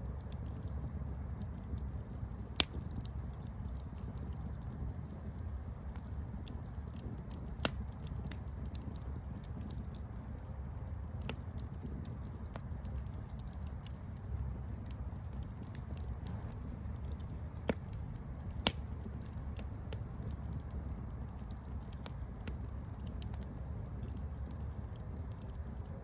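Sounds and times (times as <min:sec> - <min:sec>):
campfire burning rumble: 0:00.0 - 0:26.0
wood crackling and popping: 0:00.0 - 0:26.0.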